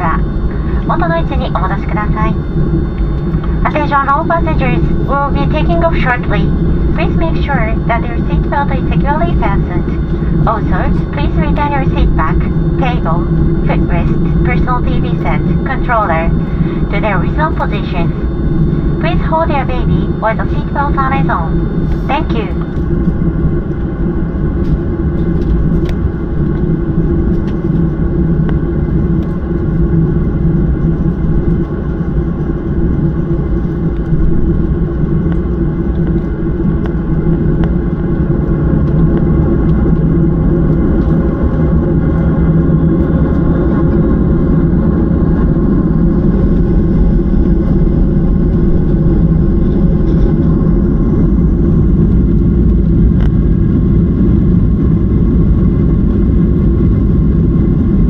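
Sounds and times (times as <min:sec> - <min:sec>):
jet engines droning in cabin: 0:00.0 - 0:58.0.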